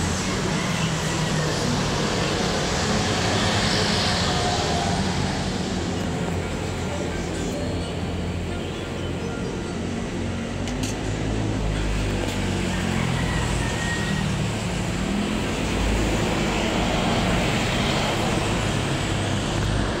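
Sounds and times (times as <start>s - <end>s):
low rumble of passing traffic: 0.0s - 20.0s.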